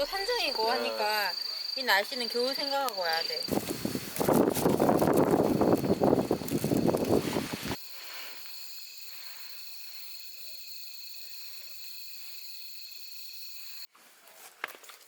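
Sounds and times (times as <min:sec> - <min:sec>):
crickets chirring: 0:00.0 - 0:13.9.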